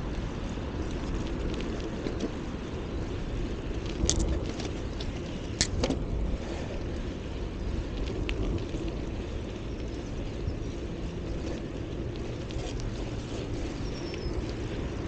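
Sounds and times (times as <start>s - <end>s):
sharp bicycle clicks: 0.0s - 15.0s
wind and rolling bicycle tyres: 0.0s - 15.0s.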